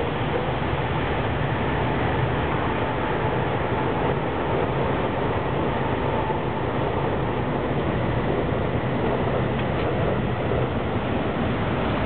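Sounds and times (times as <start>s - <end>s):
steady rushing noise with low rumble: 0.0s - 12.0s.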